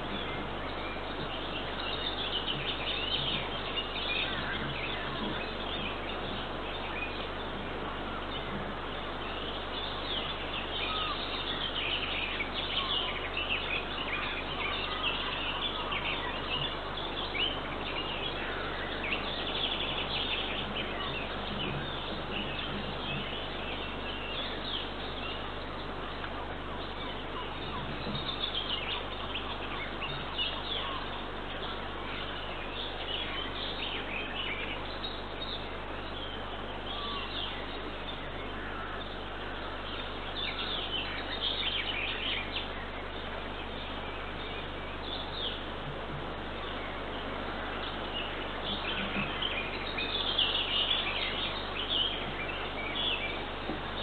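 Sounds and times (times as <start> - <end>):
small birds chirping and singing: 0.0 - 54.0
steady background hiss: 0.0 - 54.0.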